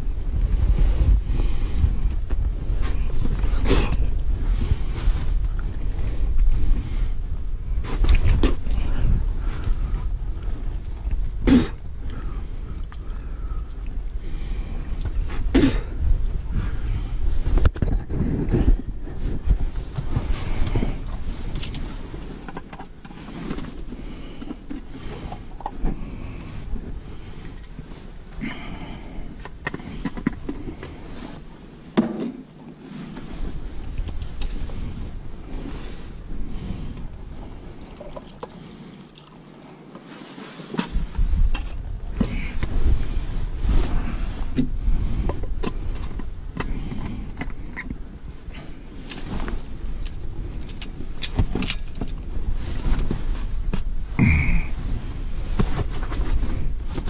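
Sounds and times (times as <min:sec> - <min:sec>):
wind buffeting microphone: 0:00.0 - 0:31.8, 0:33.2 - 0:38.6, 0:40.9 - 0:57.0.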